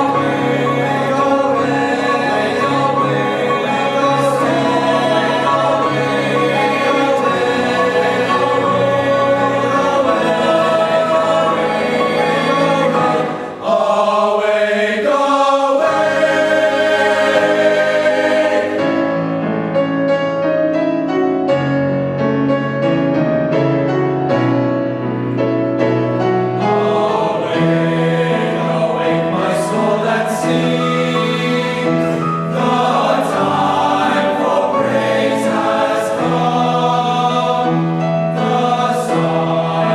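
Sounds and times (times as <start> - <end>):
choir singing in harmony: 0.0 - 19.8, 26.0 - 39.9.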